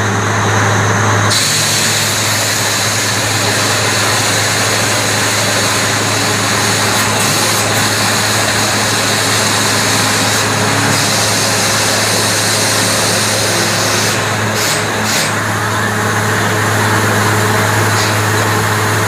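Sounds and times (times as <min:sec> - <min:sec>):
drilling rig engine hum: 0:00.0 - 0:19.0
loud dense hiss: 0:00.0 - 0:19.0.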